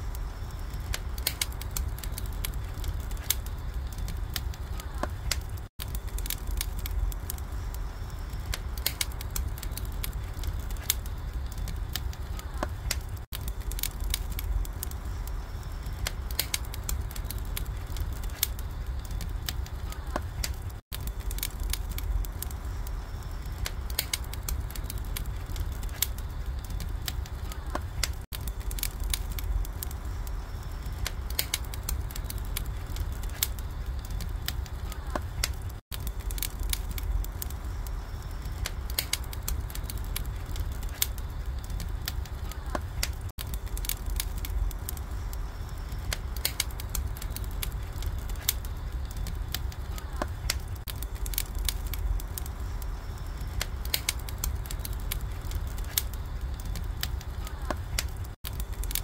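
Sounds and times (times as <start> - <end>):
low steady rumble: 0.0 - 59.0
wood fire crackling and popping: 0.0 - 59.0.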